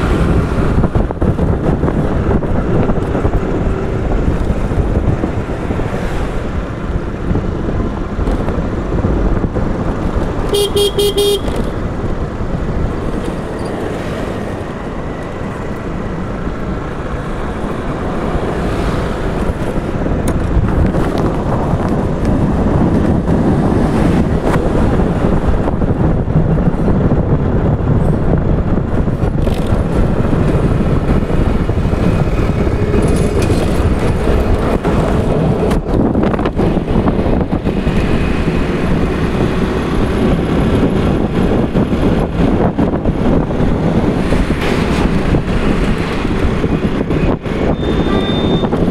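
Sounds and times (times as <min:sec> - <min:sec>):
scooter engine and wind noise: 0:00.0 - 0:48.9.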